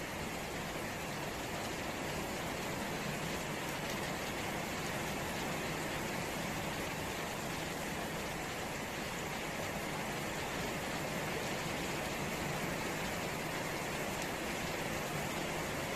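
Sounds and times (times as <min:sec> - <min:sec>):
rain falling on puddles: 0:00.0 - 0:15.9.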